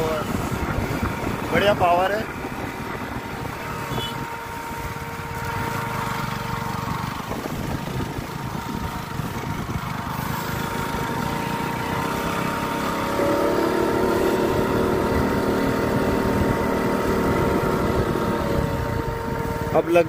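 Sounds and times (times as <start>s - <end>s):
motorcycle engine under load: 0.0s - 20.0s
wind on microphone: 0.0s - 20.0s.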